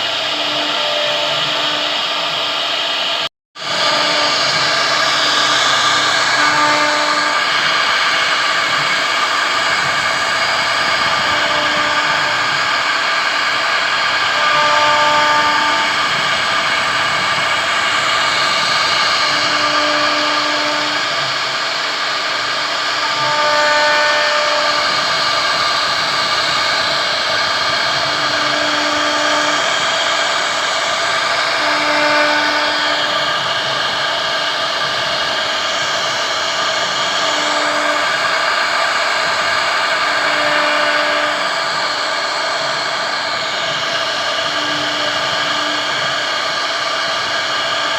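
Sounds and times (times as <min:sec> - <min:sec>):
cnc router spindle whine: 0:00.0 - 0:47.9.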